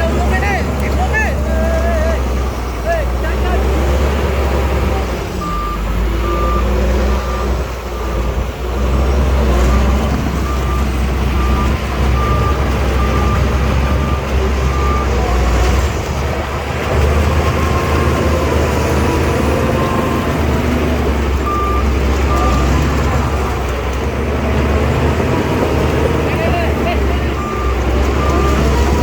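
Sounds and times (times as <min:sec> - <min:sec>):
reversing alarm beeping: 0:00.0 - 0:09.0, 0:09.6 - 0:15.8, 0:17.0 - 0:23.7, 0:26.2 - 0:29.0
bulldozer diesel engine rumble: 0:00.0 - 0:29.0.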